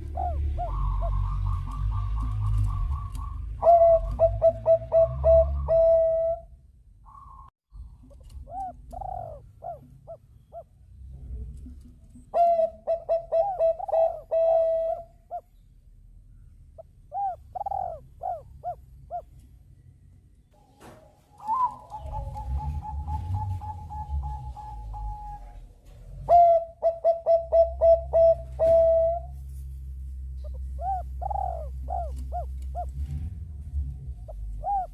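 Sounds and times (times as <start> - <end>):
dove cooing: 0.0 - 6.5, 7.1 - 10.7, 11.6 - 15.5, 16.8 - 19.4, 21.3 - 29.4, 30.4 - 33.1, 34.3 - 34.9.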